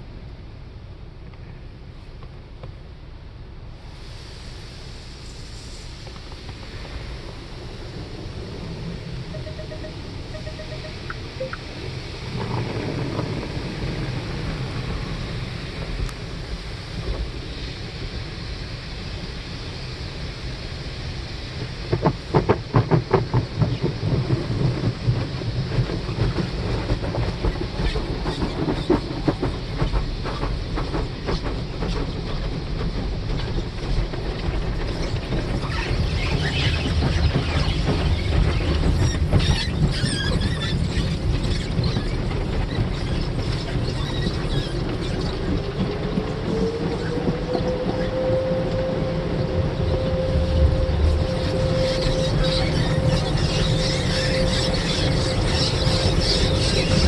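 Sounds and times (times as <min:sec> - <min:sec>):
car wash spraying and machinery: 0:00.0 - 0:57.0.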